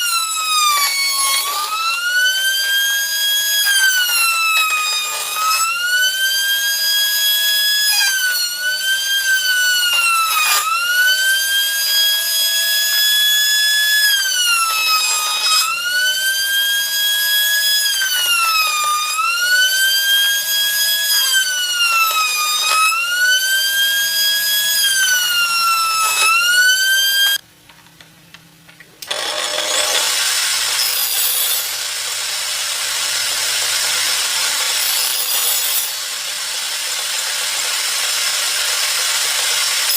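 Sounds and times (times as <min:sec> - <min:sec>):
power tool cutting wood: 0:00.0 - 0:27.4, 0:29.0 - 0:39.9.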